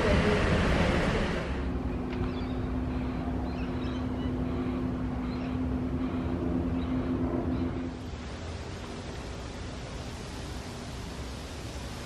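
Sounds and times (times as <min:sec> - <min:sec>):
distant vehicle humming: 0:00.0 - 0:12.0.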